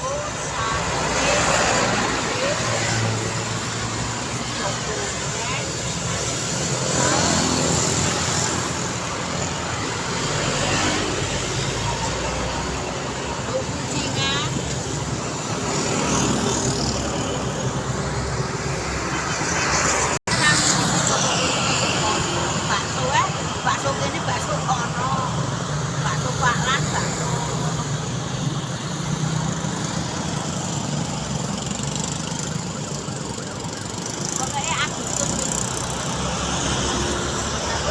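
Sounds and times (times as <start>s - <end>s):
road noise: 0.0s - 37.9s
traffic engine and tyre noise: 0.0s - 37.9s.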